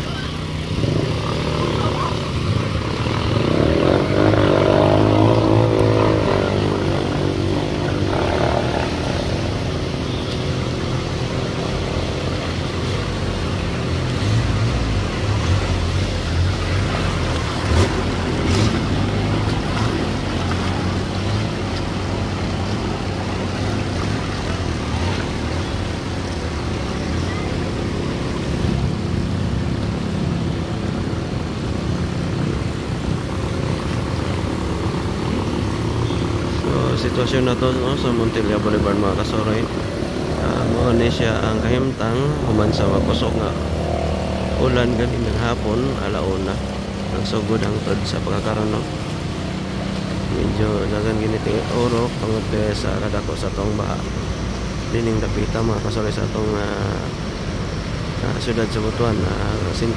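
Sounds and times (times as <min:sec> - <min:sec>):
water washing: 0:00.0 - 0:59.9.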